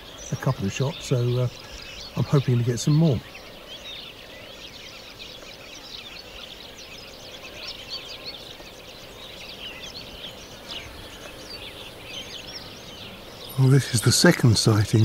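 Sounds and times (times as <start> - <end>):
small birds chirping and trilling: 0.0 - 15.0
soft outdoor hiss: 0.0 - 15.0.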